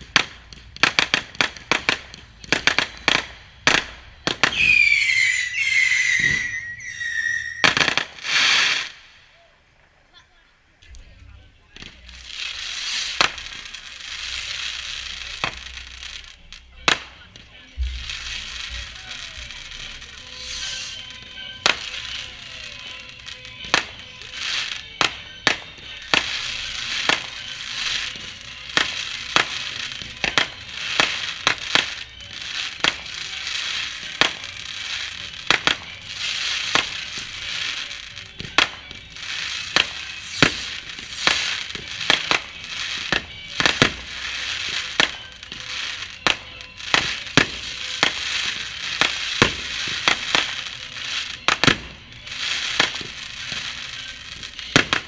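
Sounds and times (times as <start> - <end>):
fireworks bangs and cracks: 0.0 - 9.3, 10.8 - 55.0
fireworks crackling hiss: 0.0 - 55.0.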